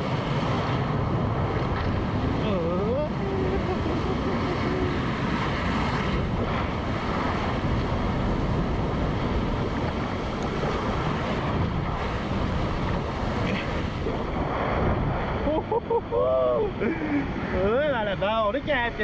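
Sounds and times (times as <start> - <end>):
water rushing along waterslide: 0.0 - 19.0
wind buffeting microphone: 0.0 - 19.0.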